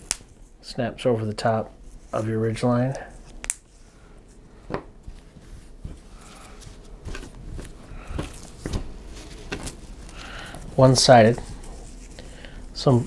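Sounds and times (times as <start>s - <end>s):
fabric rustling: 1.8s - 13.0s.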